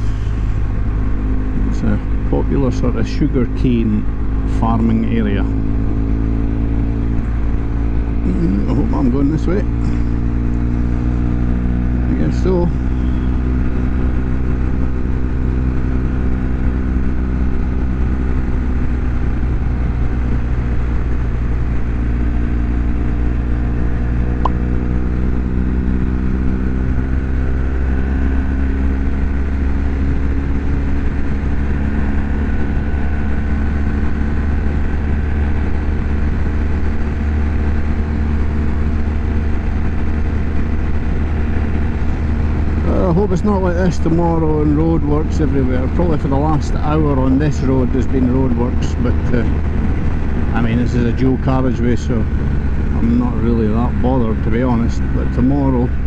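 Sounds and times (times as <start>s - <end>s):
low rumble: 0.0s - 27.0s, 27.9s - 56.0s
motorcycle engine running: 0.0s - 56.0s.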